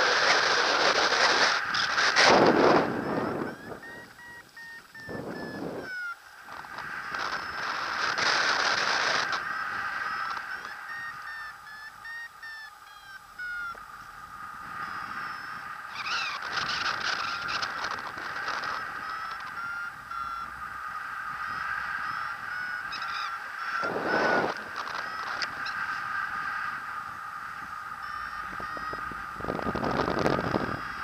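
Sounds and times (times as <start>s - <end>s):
wind rushing past microphone: 0.0s - 11.3s, 13.6s - 31.0s
low wind buffet: 0.0s - 31.0s
variometer beeping: 1.7s - 14.2s, 14.8s - 31.0s.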